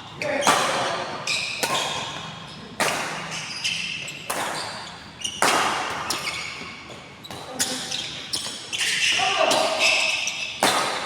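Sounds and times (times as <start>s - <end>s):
rackets hitting shuttlecock: 0.4s - 11.0s.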